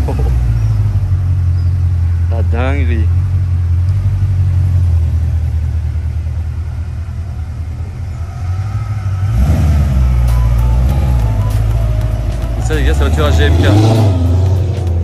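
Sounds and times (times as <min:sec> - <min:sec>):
car engine idling with deep rumble: 0:00.0 - 0:15.0.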